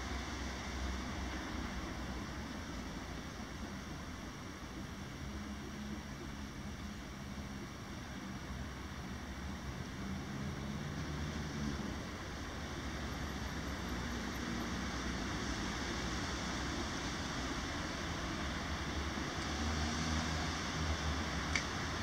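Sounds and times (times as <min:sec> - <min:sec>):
constant hiss: 0:00.0 - 0:22.0
road traffic rumble: 0:00.0 - 0:22.0.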